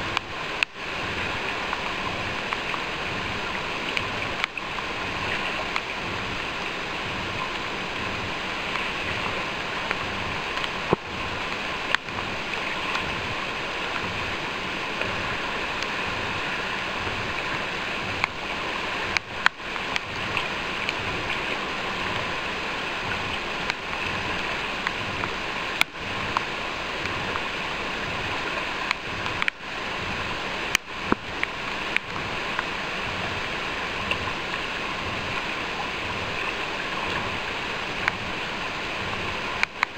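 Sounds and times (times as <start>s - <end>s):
fast-flowing river water: 0.0s - 39.9s.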